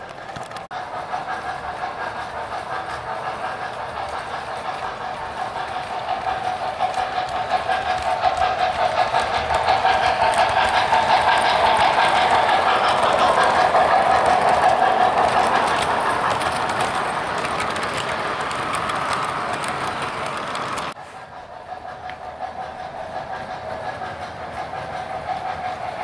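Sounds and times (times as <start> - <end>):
model locomotive running: 0.0 - 26.0
model train wheels clattering: 0.0 - 26.0.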